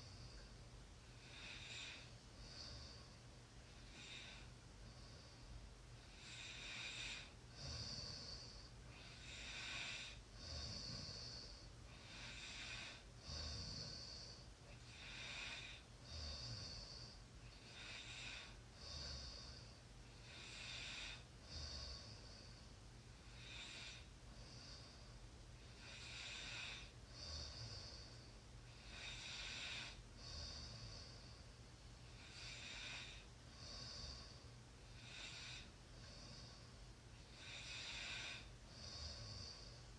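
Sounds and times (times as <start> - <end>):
person snoring softly: 0.0 - 39.9.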